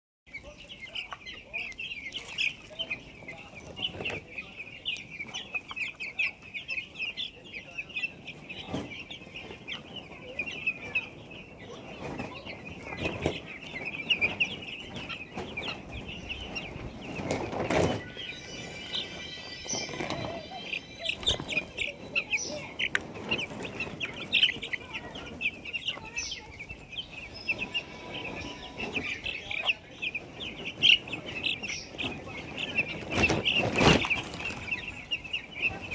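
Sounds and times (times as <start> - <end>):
chicks peeping: 0.3 - 35.9.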